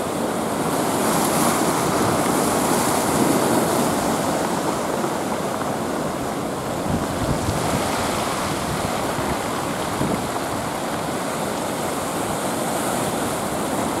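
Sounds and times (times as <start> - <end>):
sea surf breaking: 0.0 - 14.0
wind buffeting microphone: 0.1 - 14.0.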